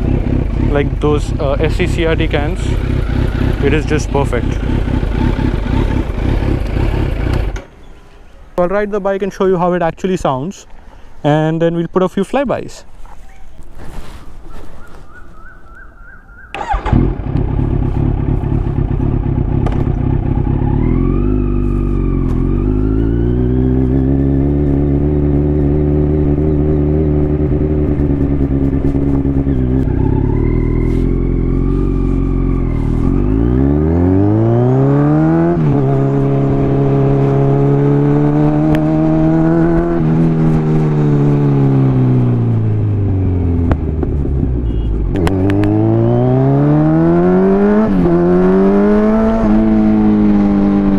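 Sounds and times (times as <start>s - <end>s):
motorcycle engine being ridden: 0.0s - 8.0s, 16.5s - 50.9s.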